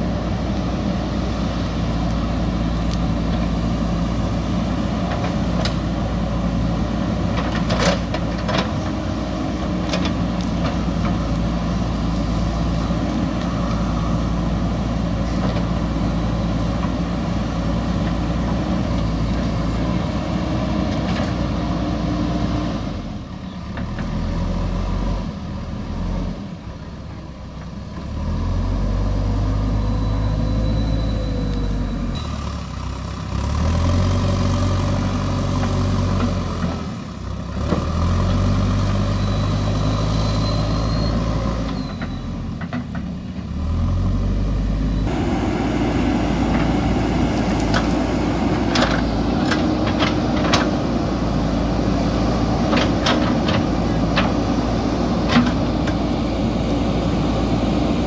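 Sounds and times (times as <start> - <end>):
diesel engine revving: 0.0 - 26.8, 27.9 - 58.0.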